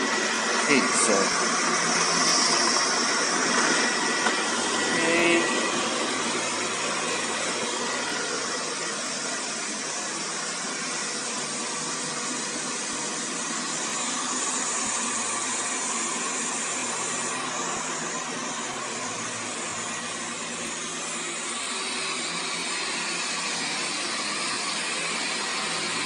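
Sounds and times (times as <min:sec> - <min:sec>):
robot vacuum whirring: 0:00.0 - 0:26.0.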